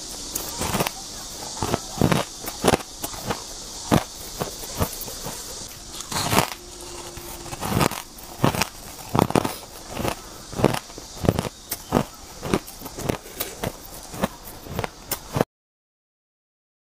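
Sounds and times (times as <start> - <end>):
ice crunching while chewed: 0.3 - 15.4.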